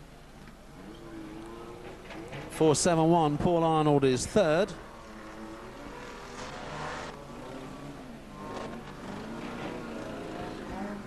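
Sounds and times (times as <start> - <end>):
car engines racing: 0.4 - 11.0.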